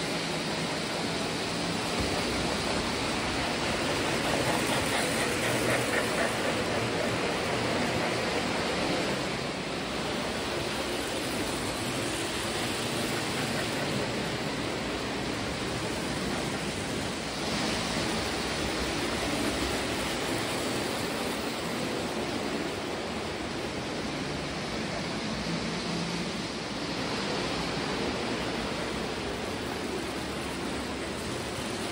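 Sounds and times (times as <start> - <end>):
model train wheels rumbling on rails: 0.0 - 31.9.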